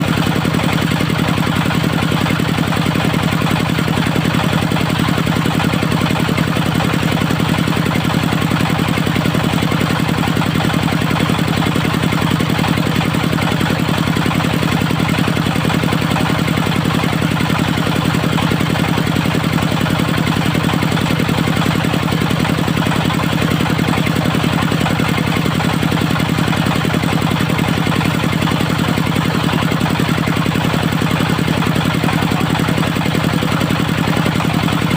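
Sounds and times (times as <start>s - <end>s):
sawmill engine running: 0.0s - 34.9s.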